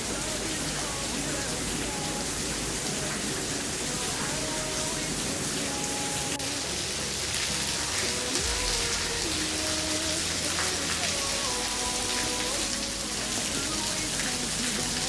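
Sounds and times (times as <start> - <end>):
steady rainfall hiss: 0.0 - 15.0.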